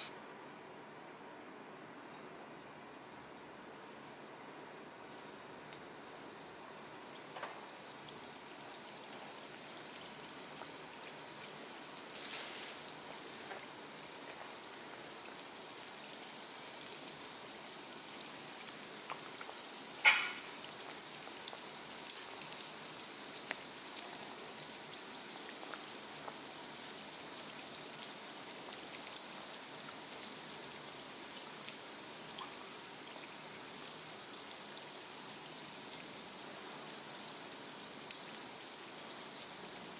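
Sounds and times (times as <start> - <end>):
oil sizzling: 5.0 - 39.9.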